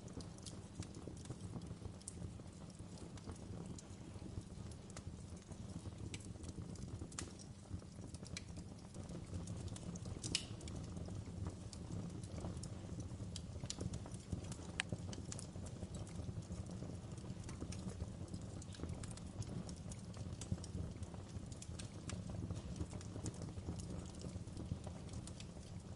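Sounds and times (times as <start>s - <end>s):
fireplace fire crackling: 0.0s - 25.9s
low fire rumble: 0.0s - 25.9s.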